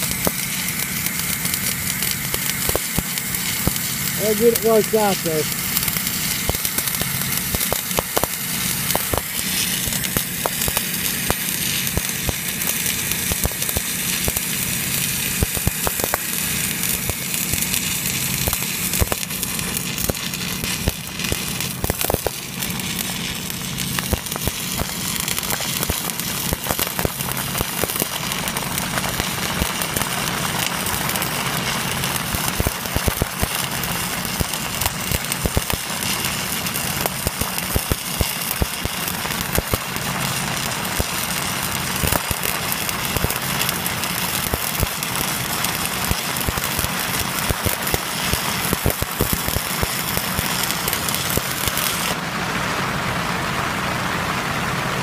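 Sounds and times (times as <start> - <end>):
welding arc crackling: 0.0 - 55.0.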